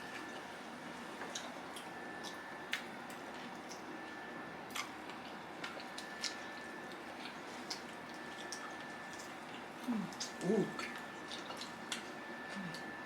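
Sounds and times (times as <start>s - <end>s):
chewing clicks and wet smacks: 1.2s - 12.9s.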